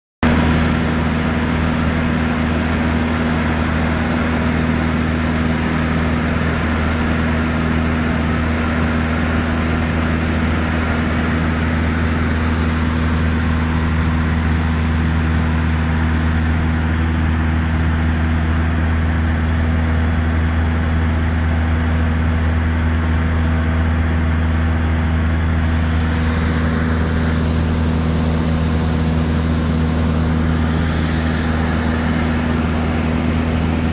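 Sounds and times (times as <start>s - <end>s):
airplane engine droning: 0.2s - 33.9s.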